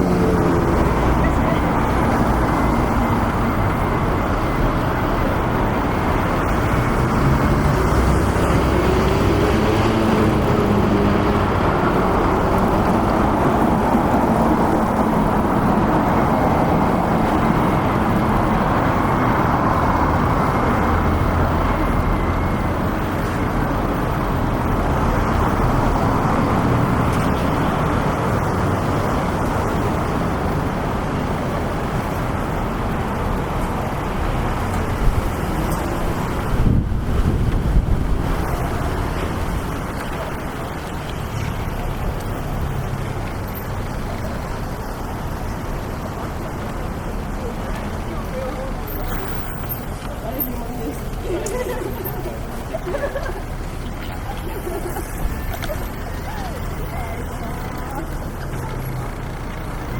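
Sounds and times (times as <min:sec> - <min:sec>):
cars driving along busy street: 0:00.0 - 0:59.9
engine hum: 0:00.0 - 0:59.9.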